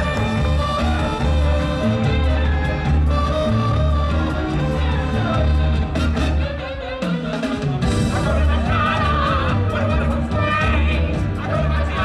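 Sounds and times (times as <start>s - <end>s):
live music over loudspeakers: 0.0s - 12.0s.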